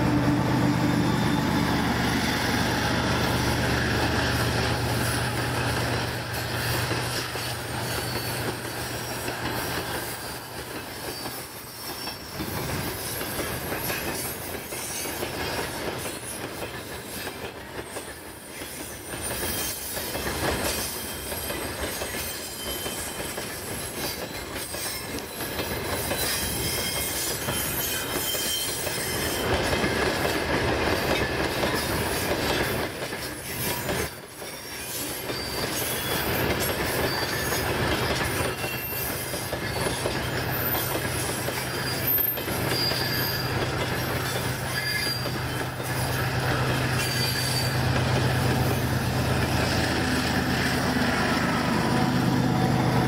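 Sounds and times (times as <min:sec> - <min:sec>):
diesel locomotive engine: 0:00.0 - 0:53.0
train wheels squealing: 0:00.0 - 0:53.0
train wheels clattering over rail joints: 0:02.0 - 0:53.0.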